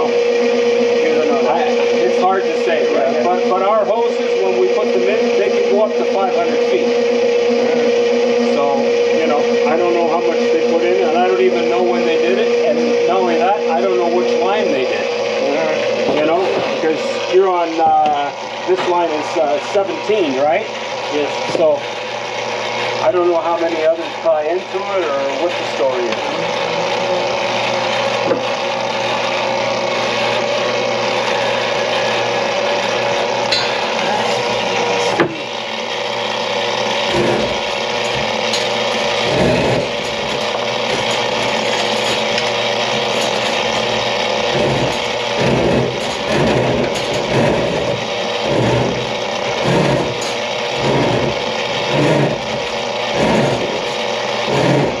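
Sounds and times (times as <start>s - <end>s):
machine motor humming with hiss: 0.0s - 55.0s.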